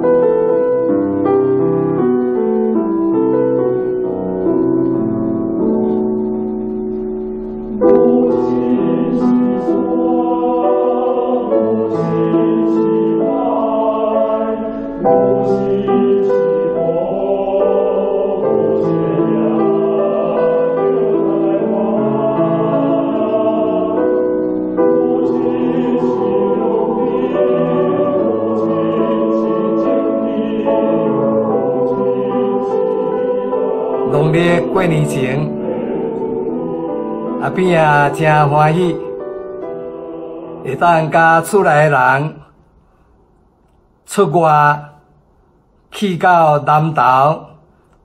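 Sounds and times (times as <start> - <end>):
choir singing held chords: 0.0 - 43.0.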